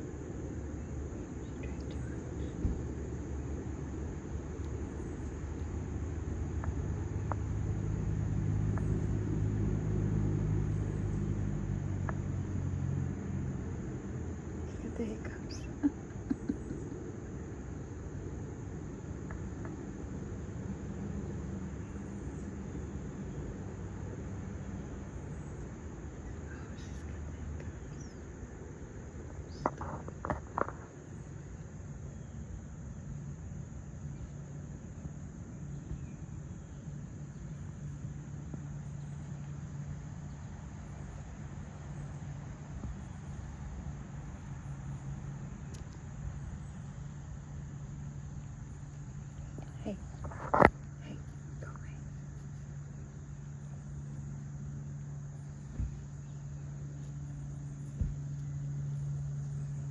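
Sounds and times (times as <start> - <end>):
low background noise: 0.0 - 59.9.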